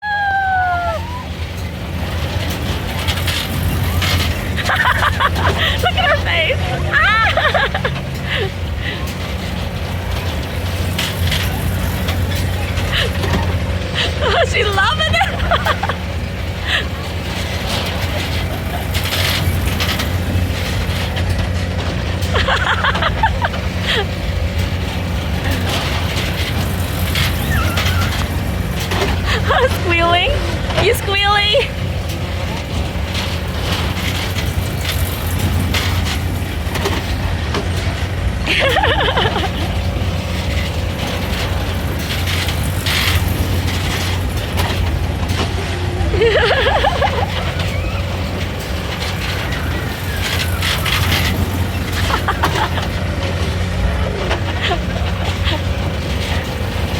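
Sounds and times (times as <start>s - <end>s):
rider squealing: 0.0s - 31.0s, 32.4s - 56.9s
amusement ride mechanical hum: 0.0s - 56.9s.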